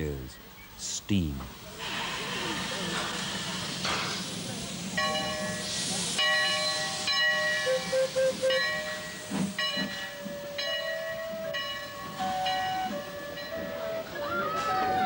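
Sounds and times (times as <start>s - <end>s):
steam locomotive hissing: 0.9s - 15.0s.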